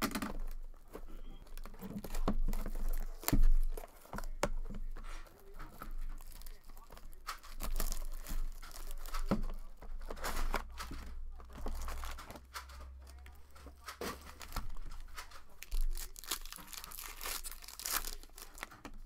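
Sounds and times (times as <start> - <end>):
card wrappers tearing and crinkling: 0.0 - 19.0.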